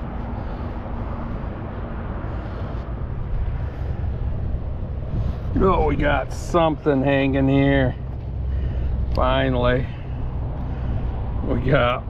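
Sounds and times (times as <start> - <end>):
faint engine tone: 0.0 - 12.0
road traffic rumble: 0.0 - 12.0.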